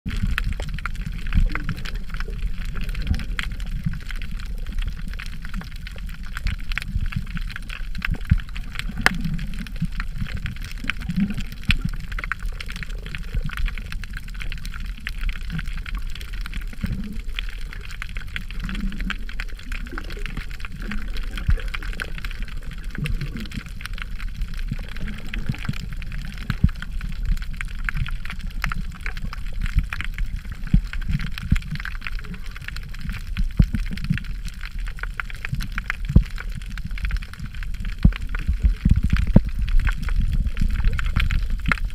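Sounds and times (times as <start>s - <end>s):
muffled underwater wash: 0.1s - 41.9s
small underwater clicks: 0.1s - 41.9s
water gurgling: 0.1s - 41.9s.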